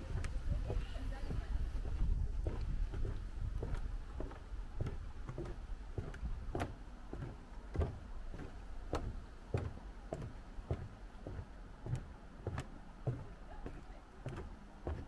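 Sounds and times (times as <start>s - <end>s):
footsteps on wooden boardwalk: 0.0s - 15.0s.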